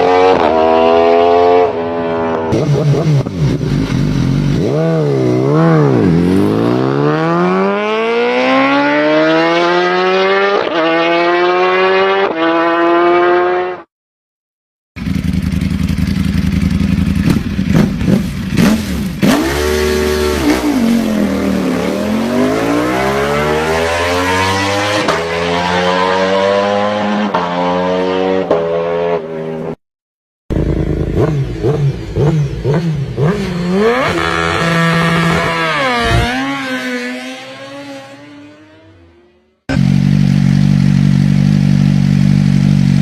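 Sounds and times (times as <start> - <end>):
motorcycle engine revving: 0.0 - 13.9, 15.0 - 29.8, 30.5 - 43.0.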